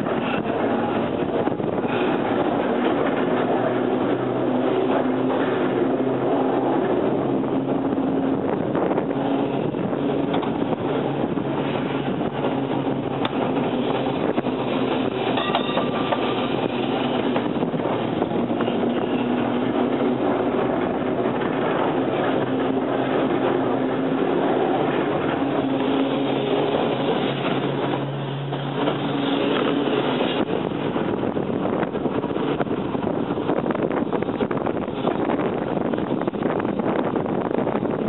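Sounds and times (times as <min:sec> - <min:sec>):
electric tram hum: 0:00.0 - 0:38.0
tram wheels rumbling on rails: 0:00.0 - 0:38.0.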